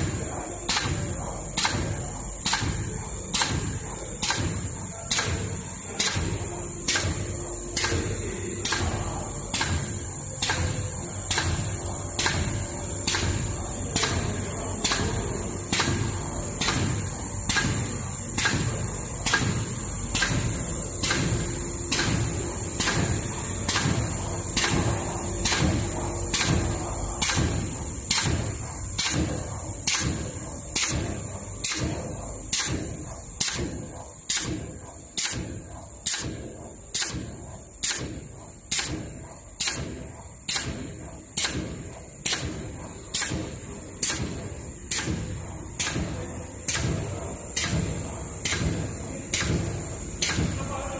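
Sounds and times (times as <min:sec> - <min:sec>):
high-pitched machine whine: 0:00.0 - 0:50.9
machine clacking: 0:00.0 - 0:50.9.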